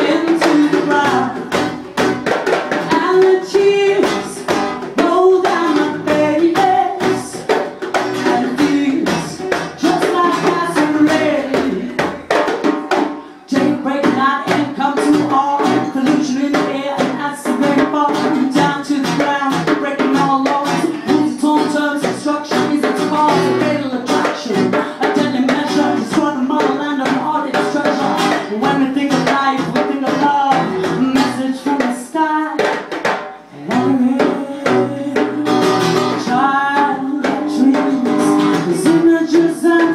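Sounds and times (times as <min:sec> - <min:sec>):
acoustic guitar strummed: 0:00.0 - 0:31.8, 0:33.3 - 0:39.9
djembes drummed by hand: 0:00.0 - 0:39.9.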